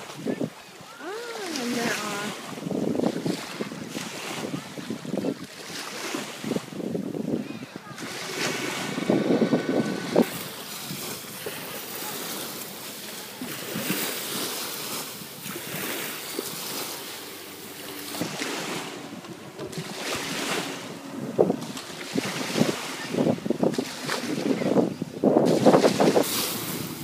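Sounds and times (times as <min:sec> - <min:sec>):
sea water lapping and splashing: 0:00.0 - 0:27.0
wind buffeting microphone: 0:00.0 - 0:27.0.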